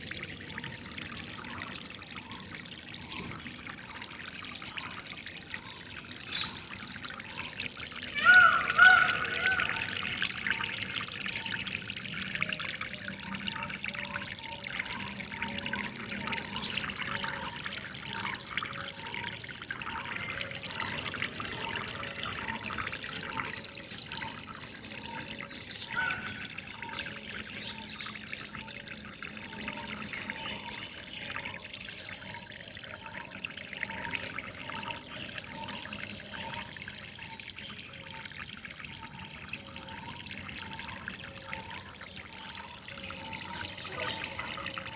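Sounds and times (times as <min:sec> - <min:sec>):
water trickling and splashing: 0:00.0 - 0:44.9.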